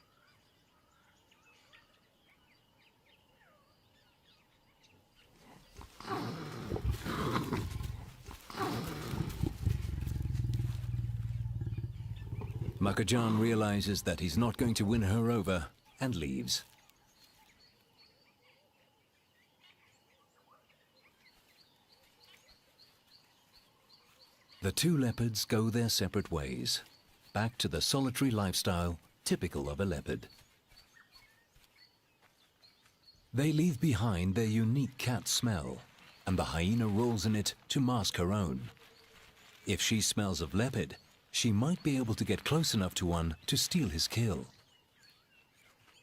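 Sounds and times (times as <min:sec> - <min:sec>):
faint wild bird calls: 0:00.0 - 0:46.0.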